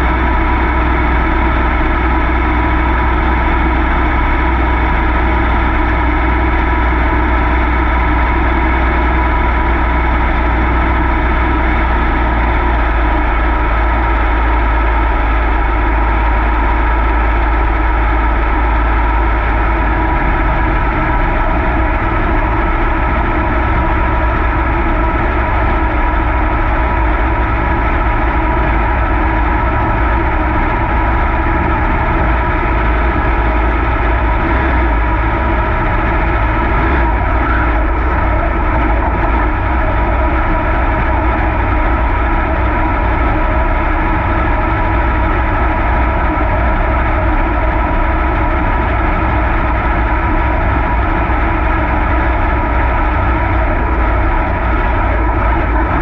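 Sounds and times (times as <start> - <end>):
race car engine running loud: 0.0 - 56.0.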